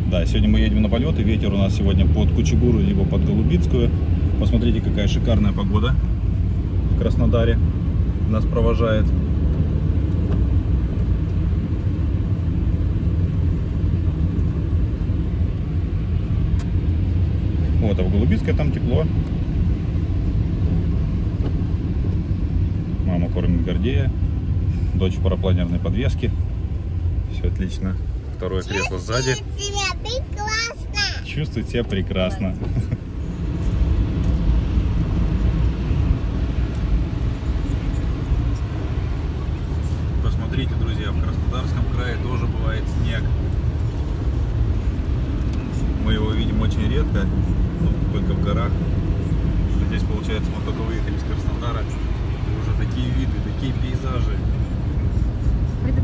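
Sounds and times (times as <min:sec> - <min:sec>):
car engine and tyres on wet road: 0:00.0 - 0:56.0.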